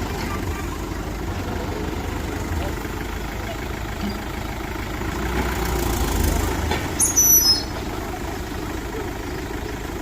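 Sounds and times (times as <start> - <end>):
heavy machinery diesel engine: 0.0 - 10.0.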